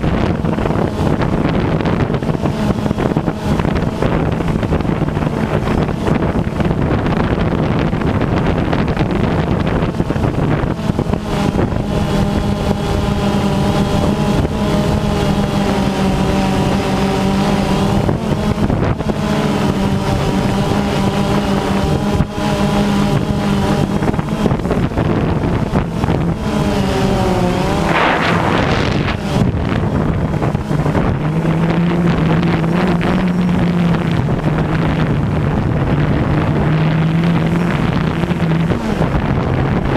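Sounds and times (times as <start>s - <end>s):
drone propellers humming: 0.0s - 39.9s
wind buffeting microphone: 0.0s - 39.9s.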